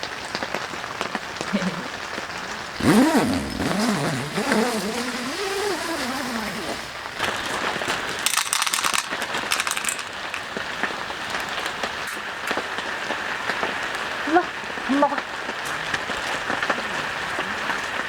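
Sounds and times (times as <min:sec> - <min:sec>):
heavy rain pattering on shelter: 0:00.0 - 0:18.0.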